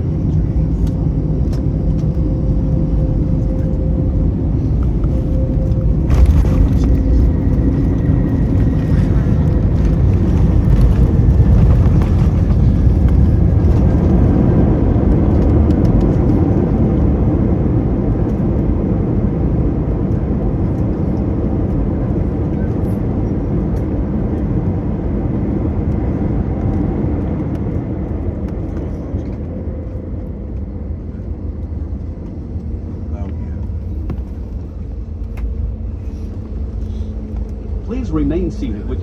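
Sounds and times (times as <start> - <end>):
jet engines deep roar: 0.0 - 39.0.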